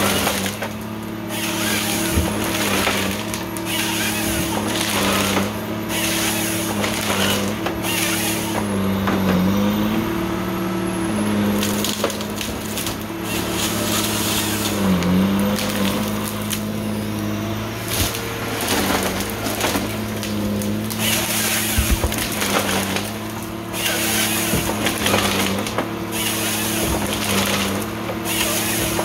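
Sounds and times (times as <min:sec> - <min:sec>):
wood cracking and splintering: 0:00.0 - 0:09.7, 0:11.2 - 0:29.0
diesel engine and hydraulics: 0:00.0 - 0:29.0.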